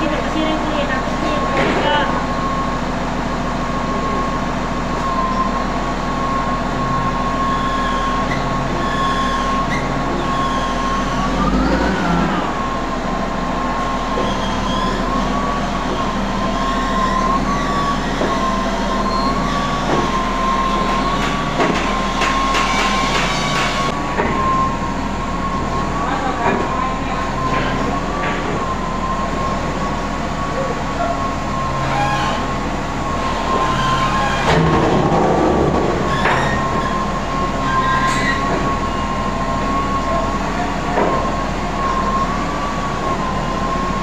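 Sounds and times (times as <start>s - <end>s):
crane diesel engine hum: 0.0s - 44.0s
hydraulic pump whine: 0.0s - 44.0s.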